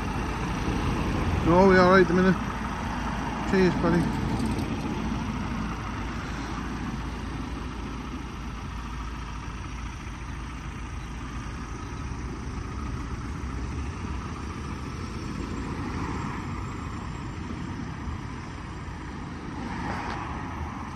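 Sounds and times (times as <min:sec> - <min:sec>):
vehicle engine rumble: 0:00.0 - 0:20.9.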